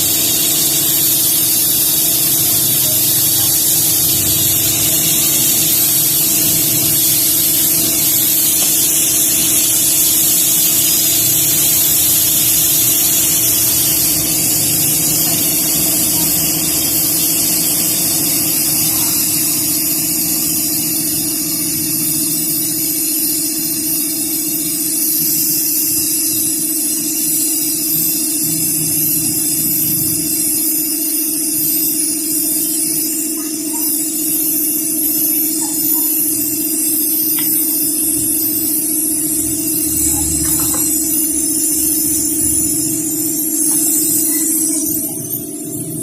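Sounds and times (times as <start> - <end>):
mechanical hum: 0.0 - 46.0
steady hissing: 0.0 - 46.0.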